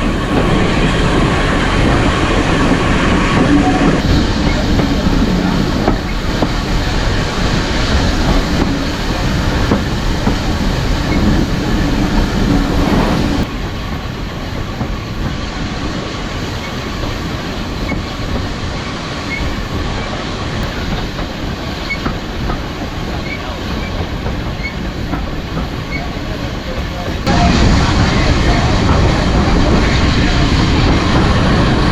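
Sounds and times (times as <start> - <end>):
steam train wheels on track: 0.0 - 31.9.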